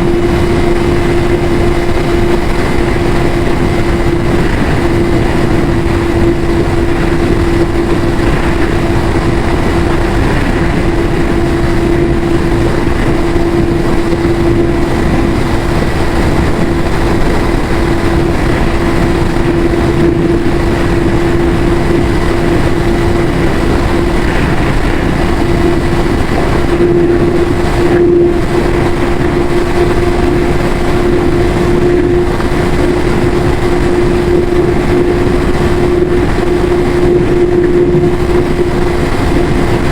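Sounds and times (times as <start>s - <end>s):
motorcycle engine at steady revs: 0.0s - 39.9s.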